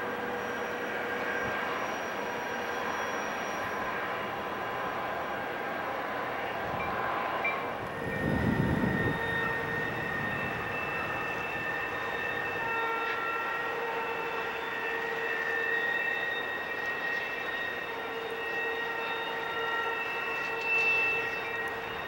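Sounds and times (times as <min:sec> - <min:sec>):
distant diesel train rumbling: 0:00.0 - 0:22.0
thin steady high tones: 0:00.1 - 0:22.0.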